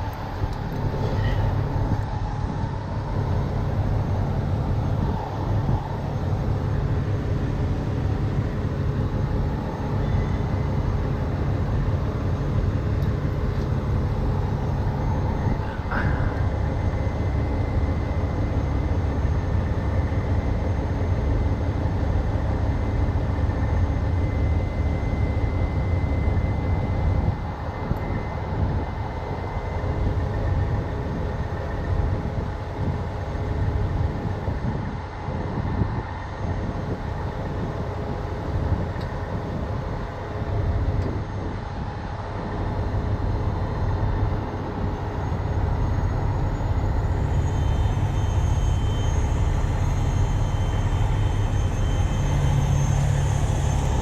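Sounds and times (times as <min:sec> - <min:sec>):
truck diesel engine rumbling: 0:00.0 - 0:24.5, 0:26.6 - 0:54.0.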